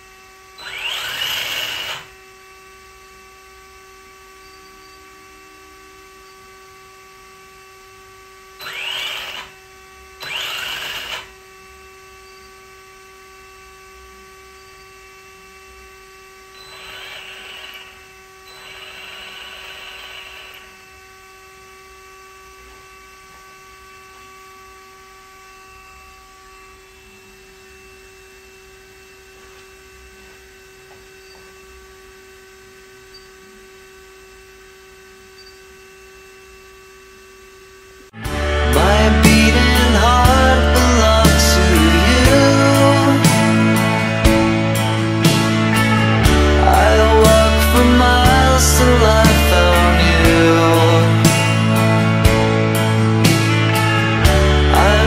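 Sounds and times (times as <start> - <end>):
electric motor whirring bursts: 0.0 - 2.6, 8.3 - 37.1, 38.2 - 55.0
steady electrical hum: 0.0 - 55.0.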